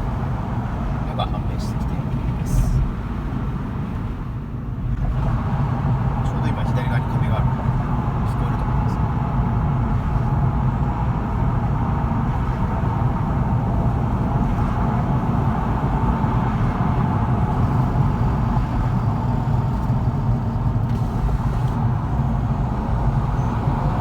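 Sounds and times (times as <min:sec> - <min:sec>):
car road and running noise: 0:00.0 - 0:24.0.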